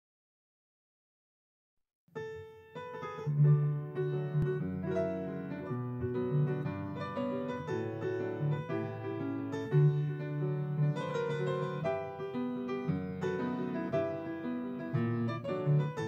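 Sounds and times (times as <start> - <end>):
grand piano playing: 2.2 - 16.0.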